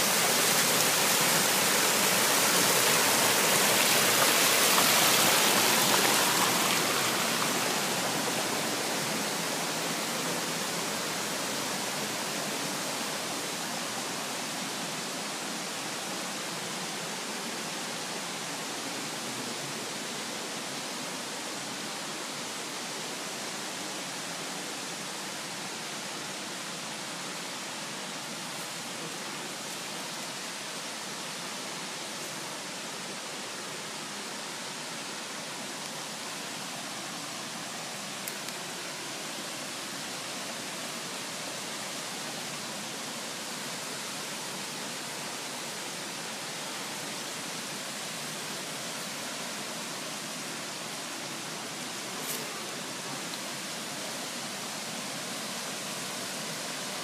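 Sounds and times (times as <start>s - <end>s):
creek water rushing over rocks: 0.0s - 57.0s.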